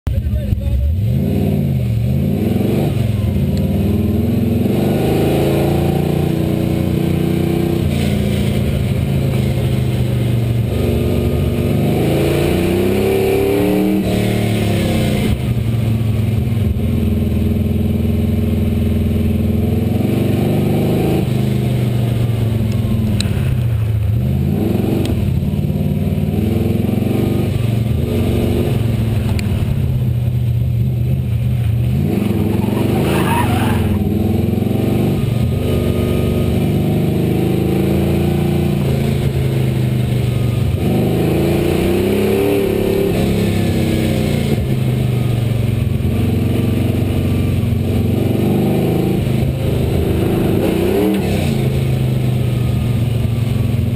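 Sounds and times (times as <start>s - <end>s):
car engine revving: 0.1s - 53.9s.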